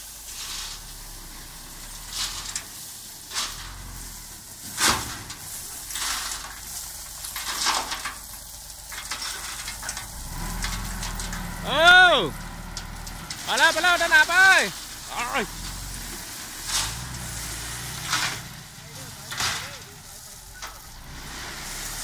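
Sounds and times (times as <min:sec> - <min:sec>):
gravel pouring from dump truck: 0:00.0 - 0:22.0
truck engine rumble: 0:00.0 - 0:22.0
falling stones clattering: 0:01.6 - 0:22.0.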